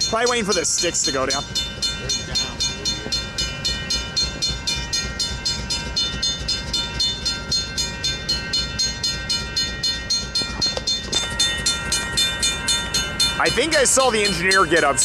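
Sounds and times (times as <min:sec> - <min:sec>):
crossing bell ringing: 0:00.0 - 0:15.0
diesel locomotive idling: 0:00.0 - 0:15.0.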